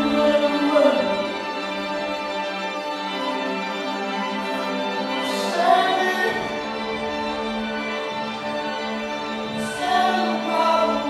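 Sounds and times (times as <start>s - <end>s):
slow music with held chord: 0.0s - 11.0s.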